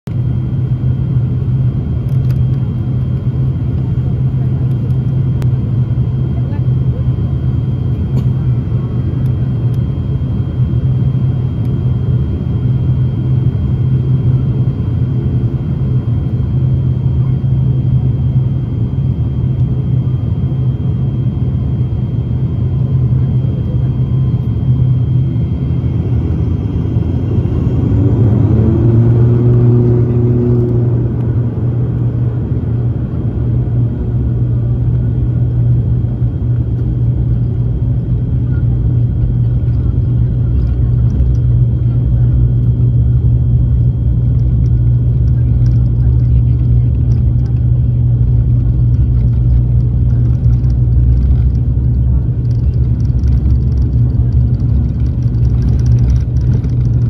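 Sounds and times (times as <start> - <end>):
rising engine whine: 0.1 - 57.0
turboprop engines droning: 0.1 - 57.0.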